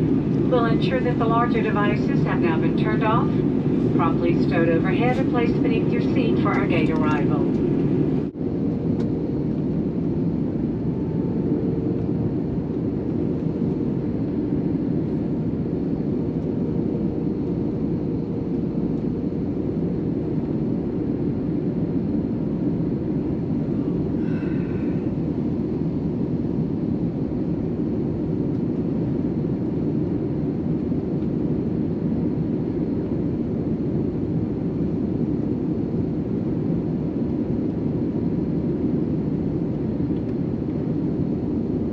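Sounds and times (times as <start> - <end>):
airliner cabin noise: 0.0 - 41.9.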